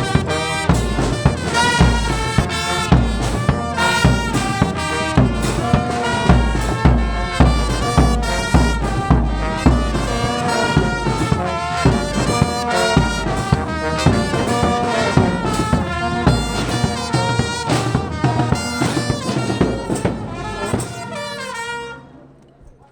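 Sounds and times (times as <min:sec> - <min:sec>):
bass drum beat: 0:00.0 - 0:21.2
brass band playing: 0:00.0 - 0:22.6.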